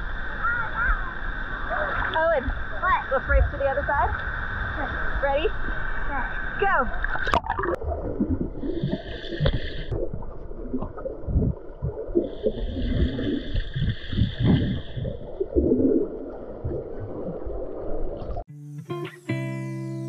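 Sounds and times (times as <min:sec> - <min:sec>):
water gurgling and sloshing: 0:00.0 - 0:18.5
water splashing: 0:00.0 - 0:18.5.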